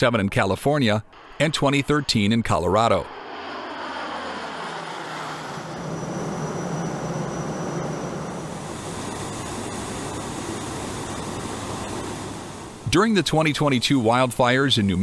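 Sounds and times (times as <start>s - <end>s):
turboprop aircraft drone: 2.5s - 15.0s.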